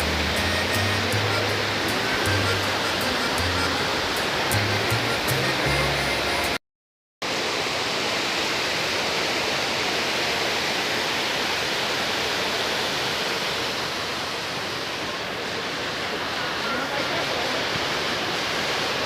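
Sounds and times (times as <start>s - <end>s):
waterfall rushing: 0.0s - 6.6s, 7.3s - 19.0s.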